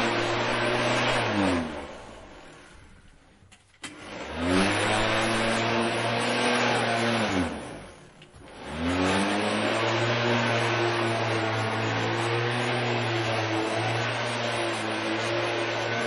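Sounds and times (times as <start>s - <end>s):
lawn mower engine running: 0.0s - 2.8s, 3.8s - 16.0s.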